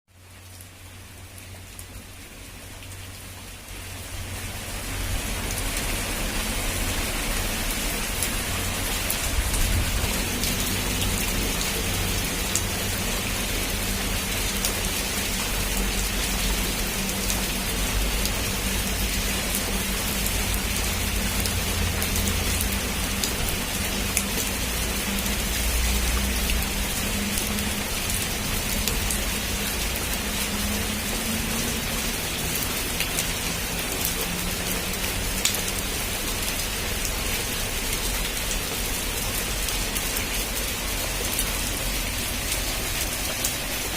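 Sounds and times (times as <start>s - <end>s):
heavy rain on a rooftop: 0.1s - 43.9s.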